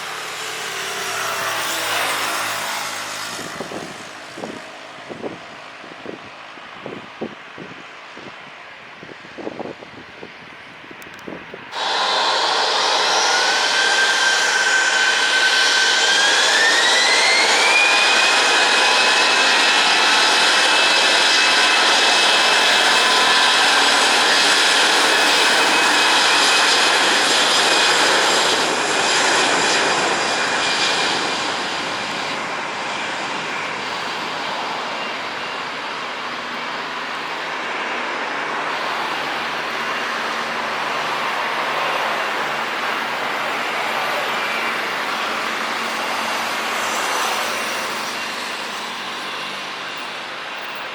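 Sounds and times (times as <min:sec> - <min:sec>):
jet engines spooling up: 0:00.0 - 0:07.2, 0:11.0 - 0:50.9.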